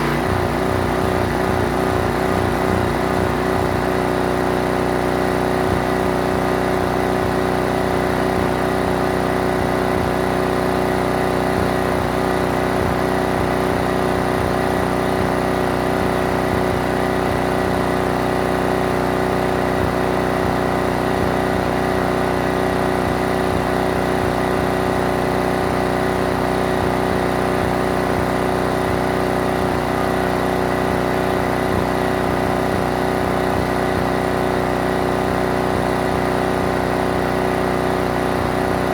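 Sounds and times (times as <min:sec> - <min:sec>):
pressure washer engine running: 0:00.0 - 0:38.9.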